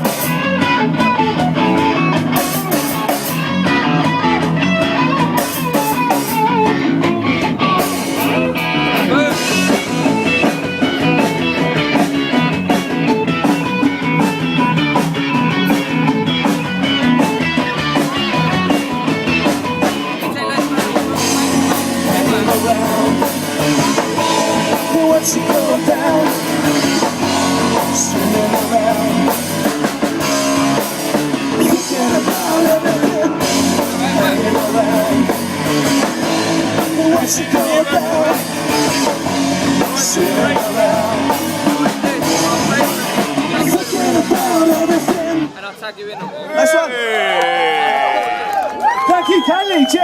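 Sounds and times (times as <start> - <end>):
drum kit: 0.0 - 45.6
guitars: 0.0 - 45.8.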